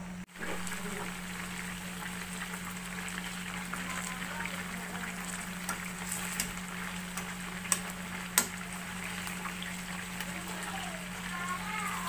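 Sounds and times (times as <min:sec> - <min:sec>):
chicken sizzling in a frying pan: 0:00.3 - 0:12.0.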